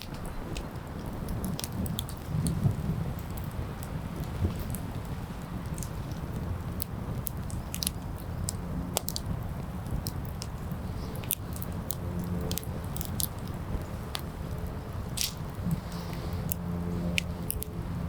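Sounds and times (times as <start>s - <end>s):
campfire crackling and popping: 0.0s - 18.0s
low rumble of fire: 0.0s - 18.0s.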